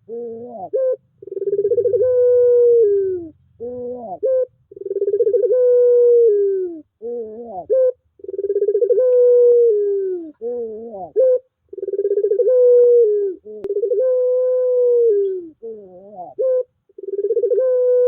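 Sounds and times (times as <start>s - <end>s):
dove cooing: 0.0s - 18.0s
short wavering dove call: 0.0s - 18.0s.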